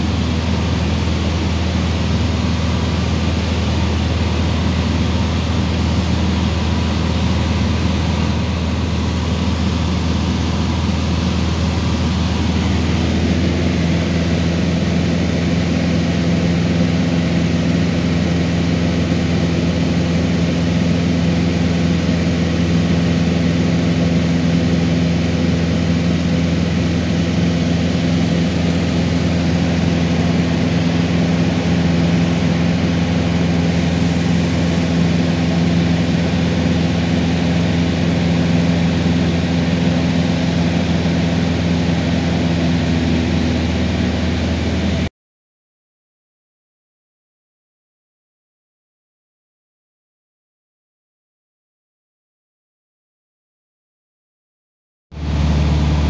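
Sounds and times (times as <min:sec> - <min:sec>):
airplane engine and propeller droning: 0:00.0 - 0:45.1, 0:55.2 - 0:56.0.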